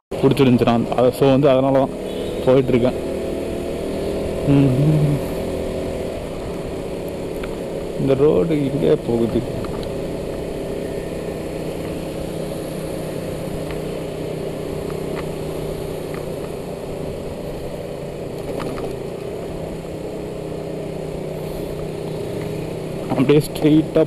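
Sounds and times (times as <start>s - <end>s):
motorcycle engine running steadily: 0.1s - 24.0s.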